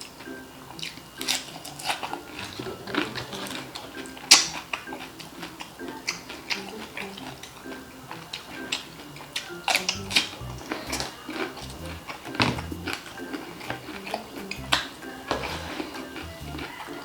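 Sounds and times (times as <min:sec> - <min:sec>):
background music: 0:00.0 - 0:17.0
crunching and chewing: 0:00.0 - 0:17.0.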